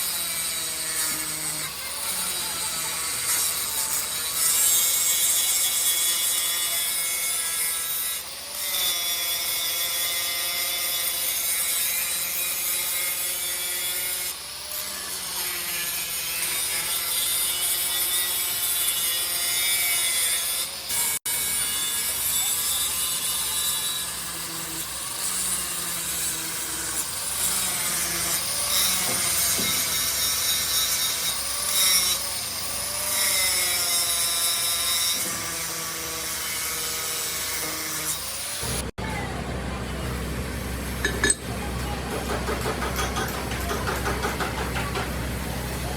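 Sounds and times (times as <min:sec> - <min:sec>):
metal grinding and scraping: 0:00.0 - 0:35.7, 0:40.9 - 0:45.9.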